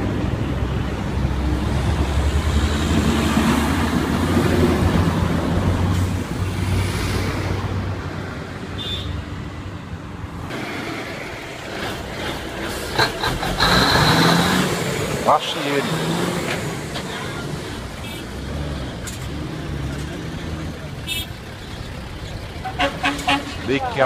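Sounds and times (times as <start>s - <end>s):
truck diesel engine passing: 0.0s - 8.7s, 9.4s - 24.0s
road noise: 0.0s - 24.0s.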